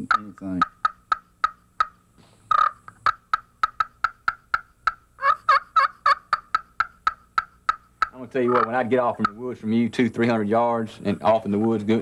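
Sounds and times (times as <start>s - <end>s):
turkey call clucks: 0.0s - 9.7s.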